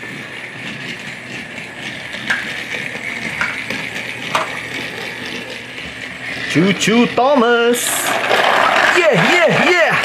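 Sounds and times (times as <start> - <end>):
toy train motor whirring: 0.0 - 10.0
wheels rattling on track: 0.6 - 10.0.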